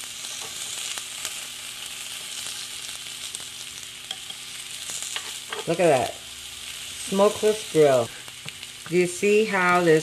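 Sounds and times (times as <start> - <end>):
vegetables sizzling on grill: 0.0 - 10.0.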